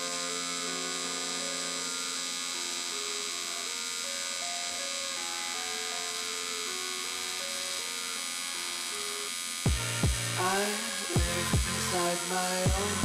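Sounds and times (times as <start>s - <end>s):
faint background music: 0.0s - 13.0s
welding arc buzzing: 0.0s - 13.0s.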